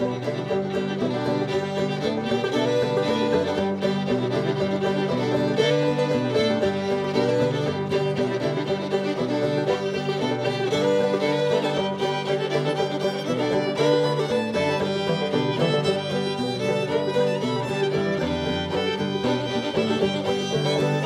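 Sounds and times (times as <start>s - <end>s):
banjo: 0.0s - 21.0s
fiddles playing melody: 0.0s - 21.0s.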